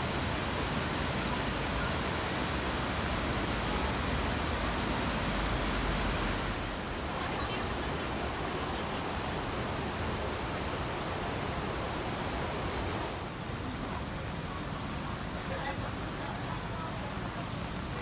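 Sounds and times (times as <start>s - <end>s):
river water rushing over weir: 0.0s - 18.0s.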